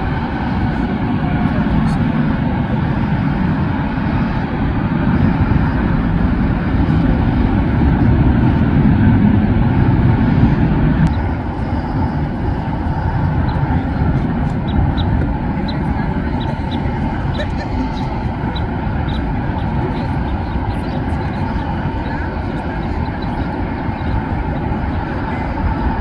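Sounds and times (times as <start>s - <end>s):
jet airliner engine rumble: 0.0s - 26.0s.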